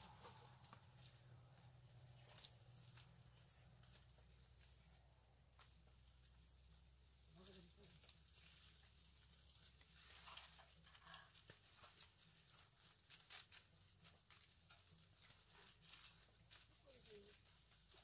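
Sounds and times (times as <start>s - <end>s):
leaves crackling and rustling: 0.0s - 18.0s.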